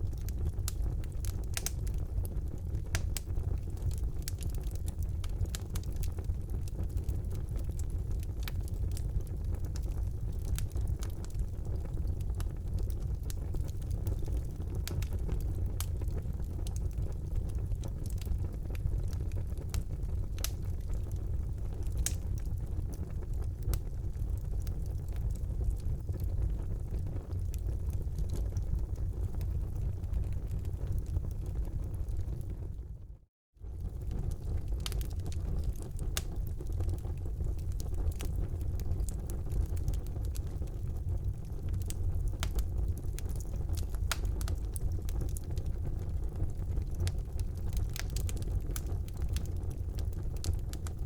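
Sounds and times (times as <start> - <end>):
fire crackling and popping: 0.0 - 33.0, 33.6 - 51.0.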